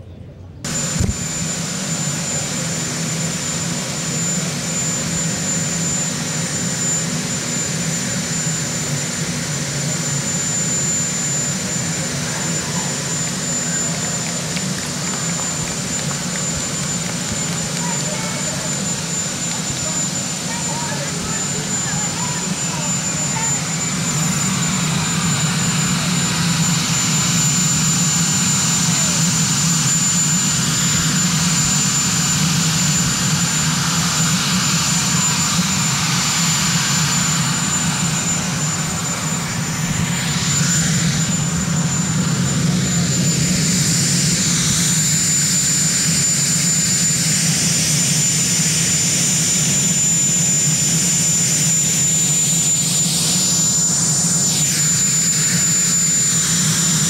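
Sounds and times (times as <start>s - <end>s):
helicopter turbine engines running: 0.0s - 57.0s.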